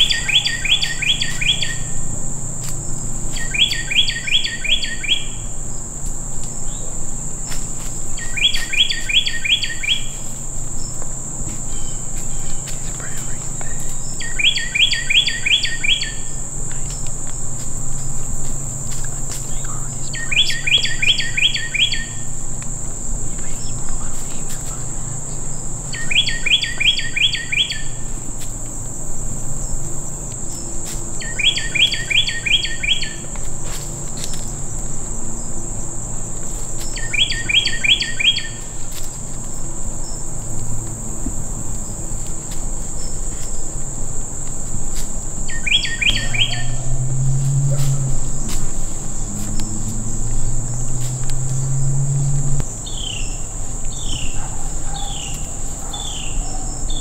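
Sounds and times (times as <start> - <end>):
insects droning: 0.0 - 57.0
songbird singing: 0.0 - 57.0.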